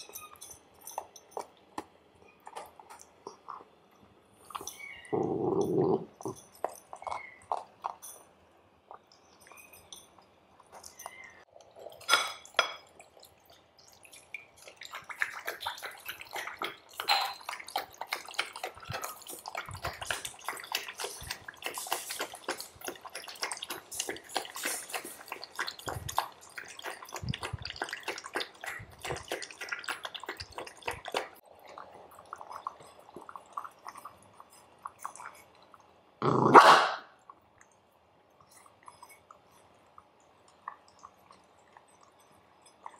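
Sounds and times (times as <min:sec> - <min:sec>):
animals chewing and smacking: 0:00.0 - 0:36.2, 0:37.2 - 0:42.9.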